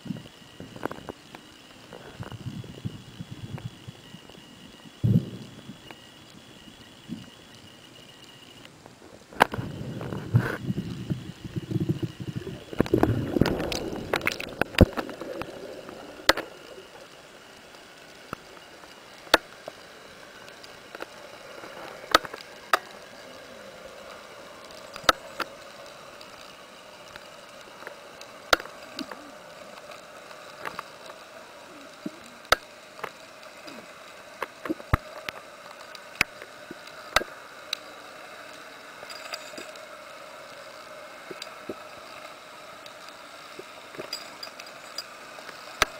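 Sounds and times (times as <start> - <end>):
faint underwater hiss: 0.0 - 45.9
water rushing over camera: 8.8 - 45.9.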